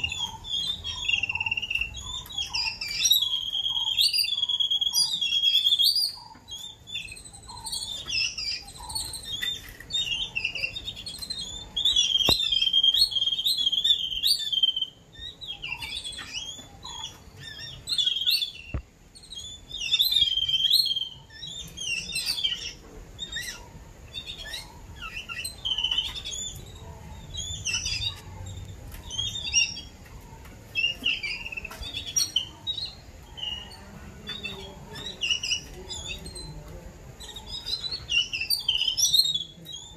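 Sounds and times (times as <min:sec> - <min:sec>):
birds chattering with squeaky calls: 0:00.0 - 0:39.9.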